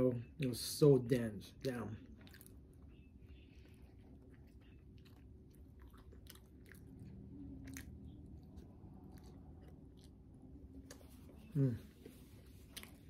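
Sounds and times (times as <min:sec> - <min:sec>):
person chewing food: 0:02.0 - 0:13.0.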